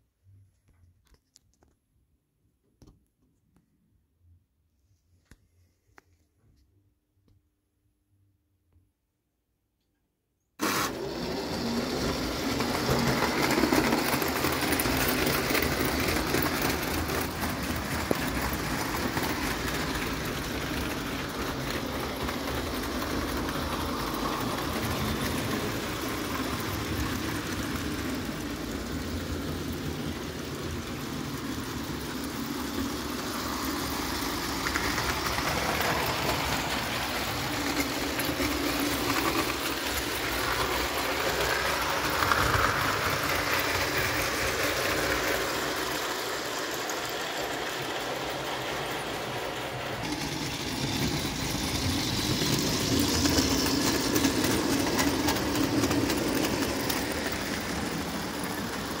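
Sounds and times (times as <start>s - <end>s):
toy train motor whirring: 10.6s - 59.0s
wheels rumbling on rails: 10.9s - 59.0s.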